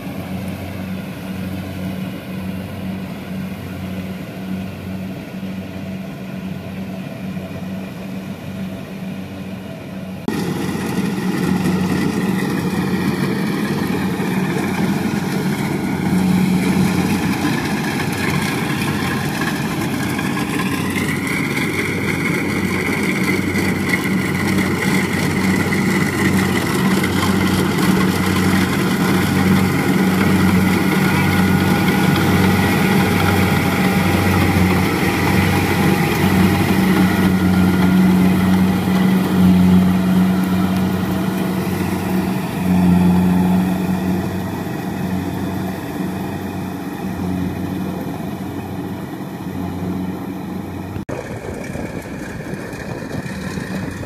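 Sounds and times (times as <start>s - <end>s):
combine harvester diesel drone: 0.0s - 54.0s
high machine whine: 9.8s - 54.0s.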